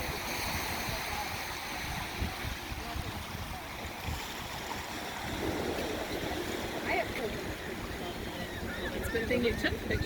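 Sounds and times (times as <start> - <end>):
waves washing on a beach: 0.0 - 10.0.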